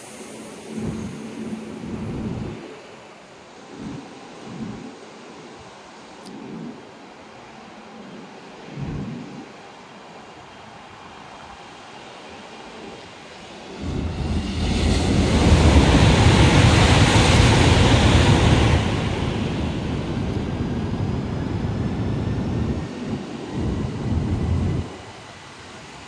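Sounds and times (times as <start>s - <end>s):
high-speed train rushing past: 0.0s - 5.2s, 9.2s - 26.0s
wind buffeting microphone: 0.6s - 11.0s, 12.9s - 26.0s.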